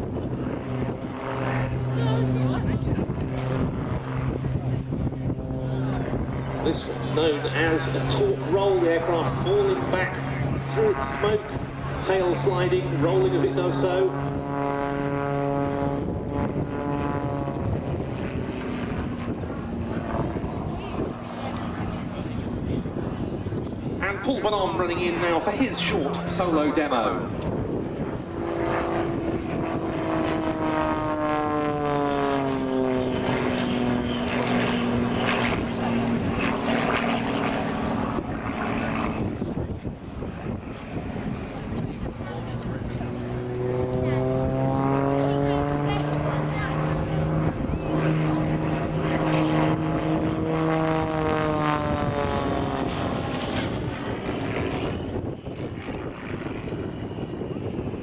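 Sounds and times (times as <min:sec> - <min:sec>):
propeller plane flying past: 0:00.0 - 0:58.0.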